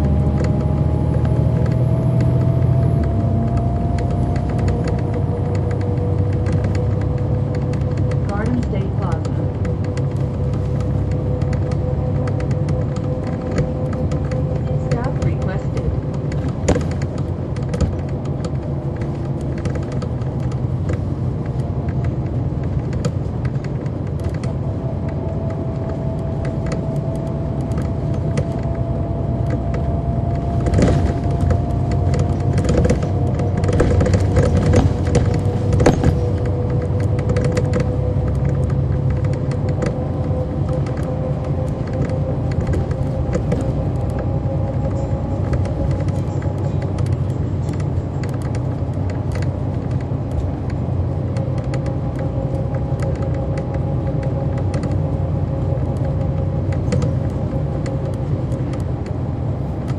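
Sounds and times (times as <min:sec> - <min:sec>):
diesel bus engine rumbling: 0:00.0 - 0:59.9
engine whine rising in pitch: 0:00.0 - 0:59.9
small clicks and rattles: 0:00.2 - 0:59.2.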